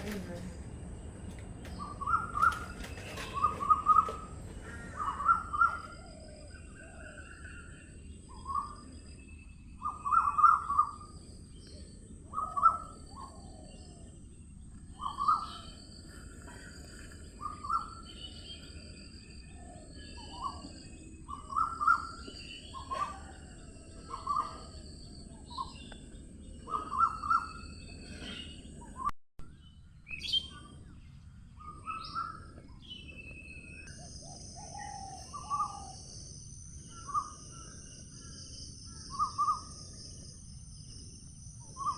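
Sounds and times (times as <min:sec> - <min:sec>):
loud bird calls: 0:01.6 - 0:09.1, 0:09.8 - 0:29.1, 0:31.6 - 0:40.2.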